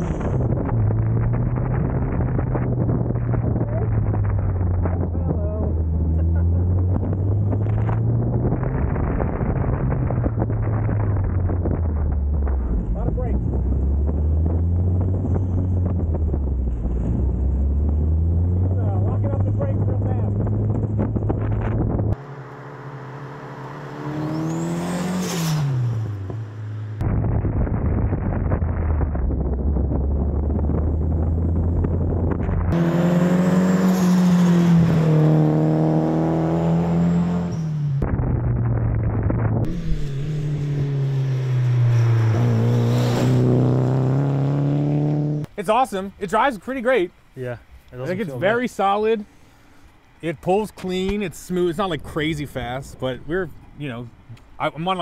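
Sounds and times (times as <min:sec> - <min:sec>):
car engine running: 0:00.0 - 0:24.6, 0:26.0 - 0:45.5.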